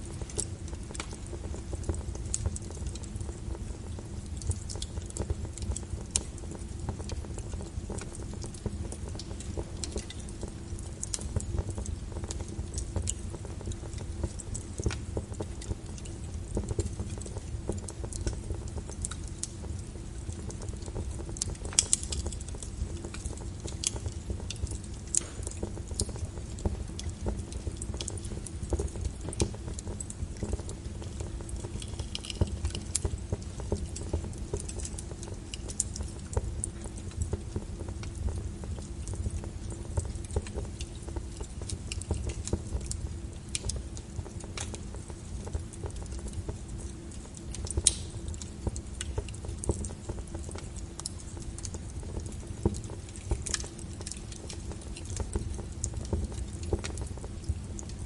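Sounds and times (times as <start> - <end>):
logs crackling and popping in fire: 0.0 - 58.0
low steady fire rumble: 0.0 - 58.0.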